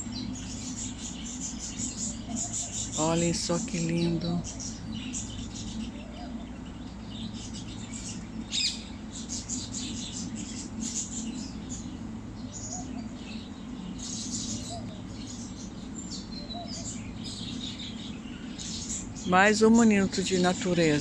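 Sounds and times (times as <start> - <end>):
low background hum: 0.0 - 21.0
small birds chirping: 0.0 - 21.0.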